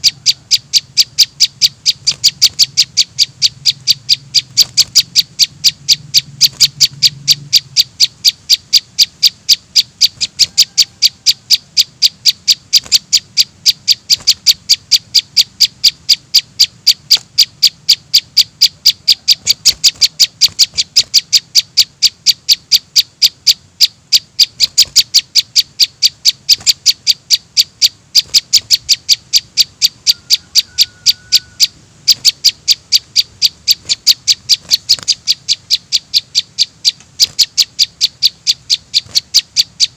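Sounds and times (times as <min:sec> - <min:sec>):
fledgling bird begging chirps: 0:00.0 - 0:39.9.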